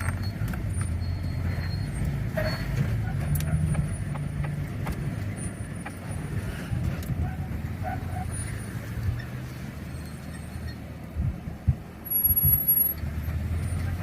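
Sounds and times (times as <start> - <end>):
pickup engine low rumble: 0.0 - 14.0.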